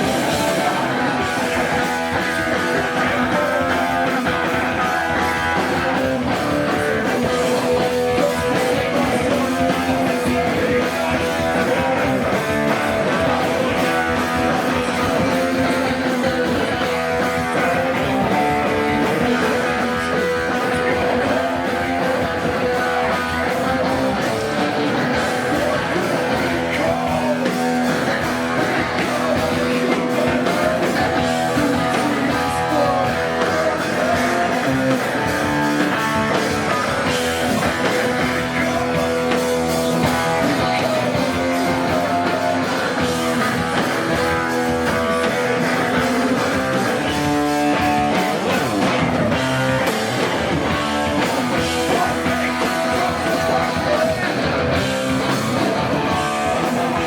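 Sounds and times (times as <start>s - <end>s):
loud electric guitars: 0.0s - 57.0s
punk band playing live: 0.0s - 57.0s.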